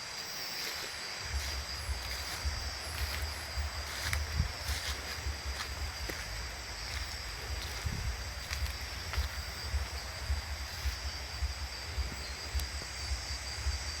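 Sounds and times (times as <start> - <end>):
insect chorus trilling: 0.0 - 14.0
low rumble: 1.2 - 13.9.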